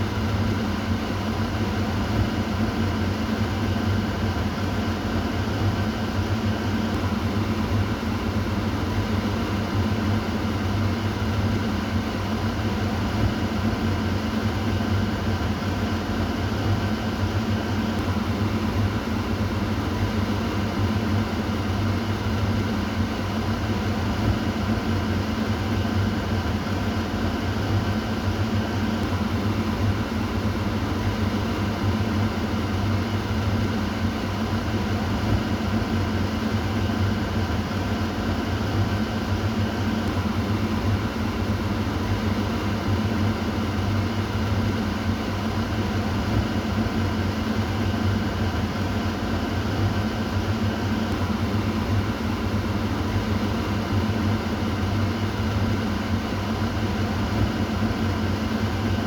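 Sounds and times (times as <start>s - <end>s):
exhaust fan running: 0.0s - 59.0s.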